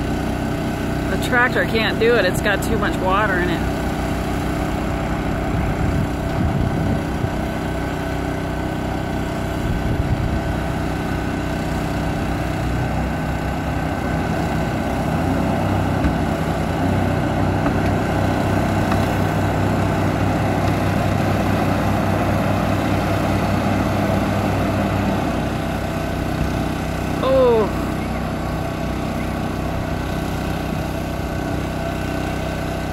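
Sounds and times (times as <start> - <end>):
tractor engine straining: 0.0 - 32.9.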